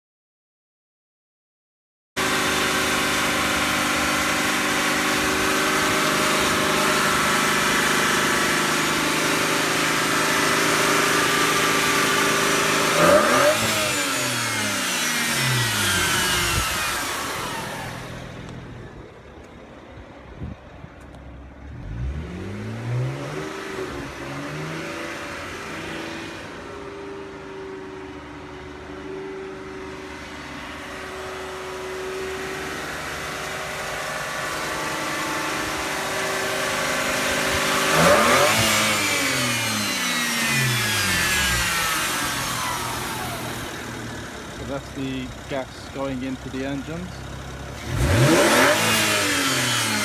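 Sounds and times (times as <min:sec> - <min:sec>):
car engine revving: 0:02.2 - 0:19.8, 0:21.6 - 0:50.0.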